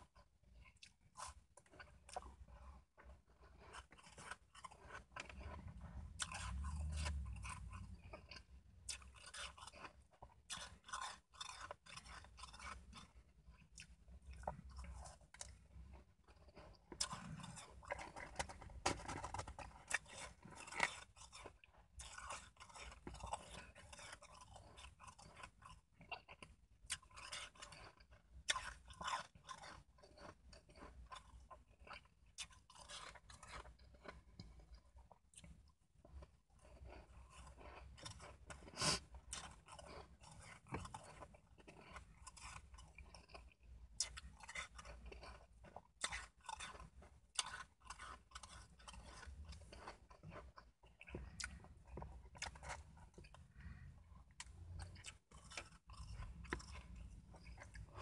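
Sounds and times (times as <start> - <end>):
chewing crunchy ice: 0.0 - 58.0.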